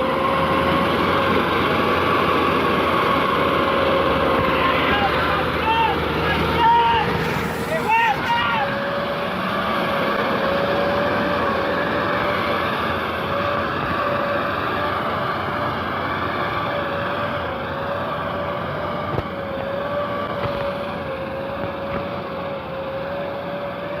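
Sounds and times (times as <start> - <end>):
vehicle engine whining and rumbling: 0.0 - 24.0.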